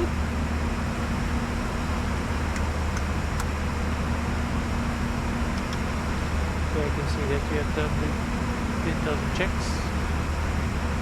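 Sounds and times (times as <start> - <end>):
low aircraft hum: 0.0 - 11.0.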